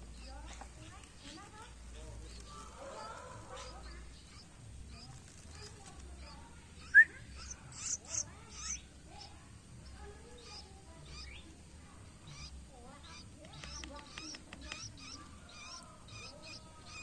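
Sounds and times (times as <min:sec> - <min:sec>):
bird chicks chirping: 0:00.0 - 0:17.0.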